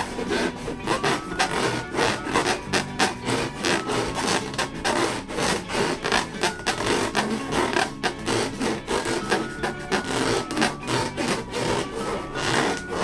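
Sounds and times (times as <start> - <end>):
hands rubbing balloons: 0.0 - 13.0.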